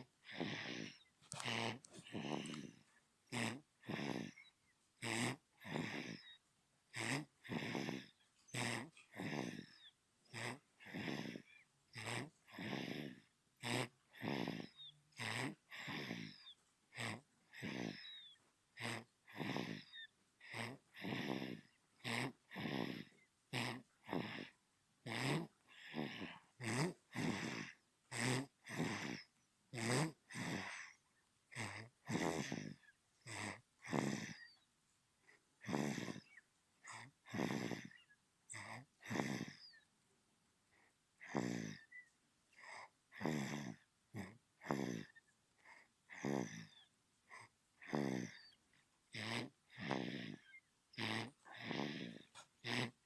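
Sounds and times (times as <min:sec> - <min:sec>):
baby snoring: 0:00.0 - 0:34.7, 0:35.6 - 0:39.9, 0:41.2 - 0:53.0.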